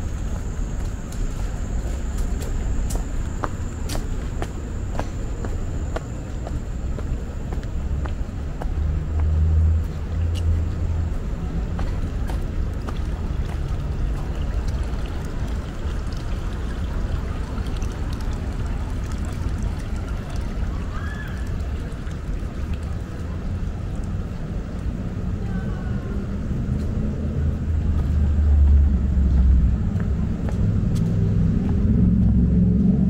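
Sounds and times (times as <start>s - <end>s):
low uneven rumble: 0.0s - 33.0s.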